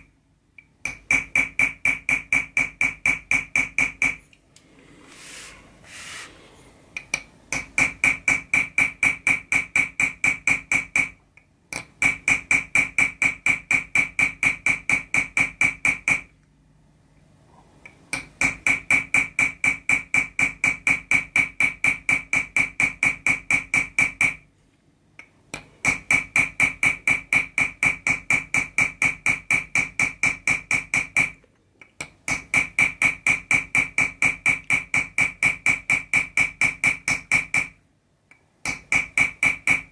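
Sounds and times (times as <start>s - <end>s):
hammer tapping metal tool on copper: 0.0s - 4.2s, 7.0s - 16.3s, 18.1s - 24.4s, 25.5s - 37.8s, 38.6s - 39.9s.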